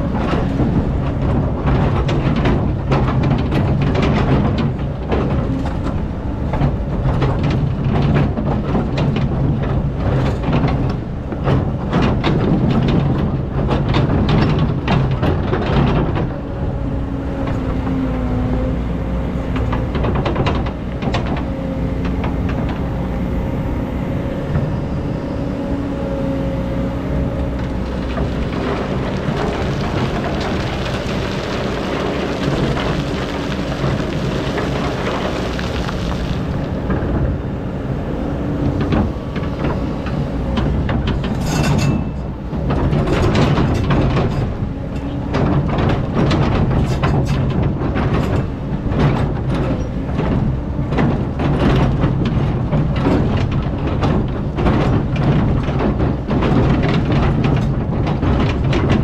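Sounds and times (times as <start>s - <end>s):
clanking and rattling: 0.0s - 18.0s, 26.3s - 59.0s
excavator engine rumble: 0.0s - 59.0s.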